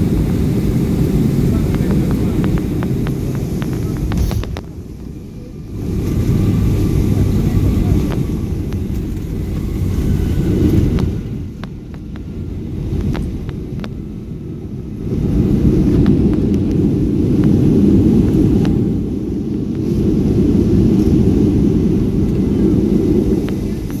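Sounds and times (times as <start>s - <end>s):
aircraft engine and wheel rumble: 0.0s - 24.0s.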